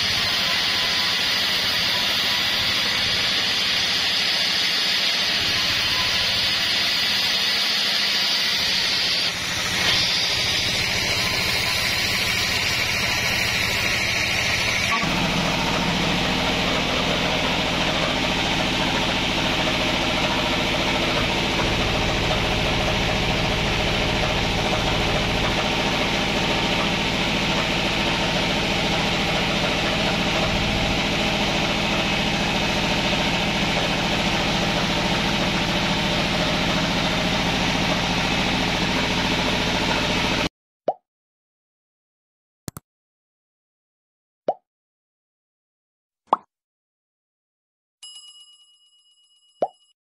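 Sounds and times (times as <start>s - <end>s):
engine running steadily: 0.0s - 40.5s.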